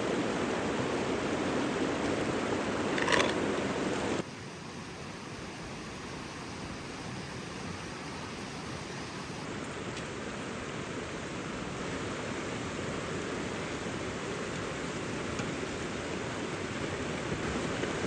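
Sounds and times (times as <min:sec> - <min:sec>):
river flowing: 0:00.0 - 0:18.0.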